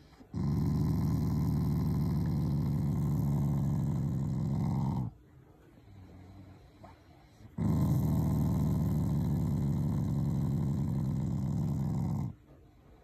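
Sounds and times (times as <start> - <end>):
dog growling: 0.0 - 5.2, 6.0 - 12.4.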